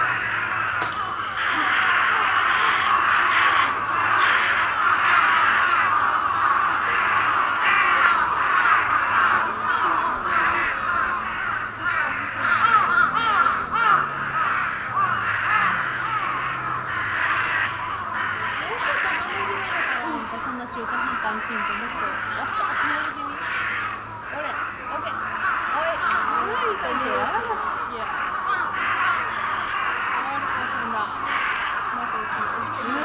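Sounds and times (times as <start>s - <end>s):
crows cawing: 0.0s - 33.0s.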